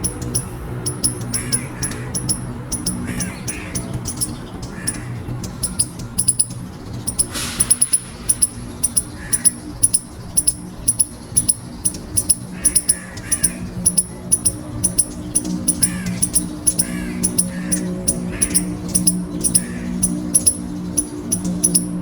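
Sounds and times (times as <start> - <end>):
squirrel squeaking: 0.0 - 22.0
steady low hum: 0.0 - 22.0.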